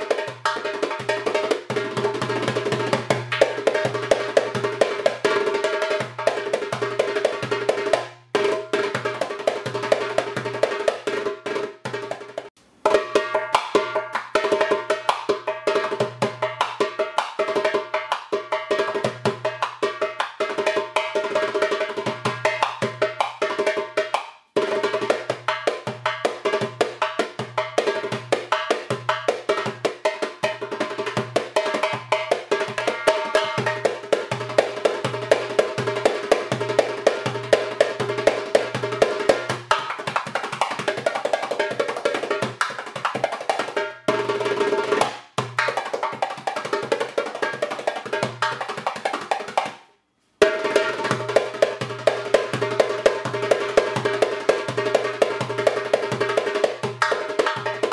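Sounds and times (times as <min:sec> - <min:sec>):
drum and wood-block rhythm: 0:00.0 - 0:57.9.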